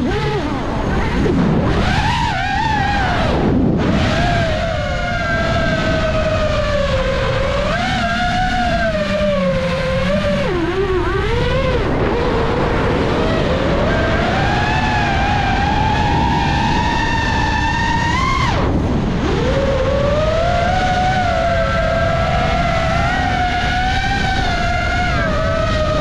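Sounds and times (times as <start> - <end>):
quadcopter motors whining: 0.0 - 26.0
wind on microphone: 0.0 - 26.0.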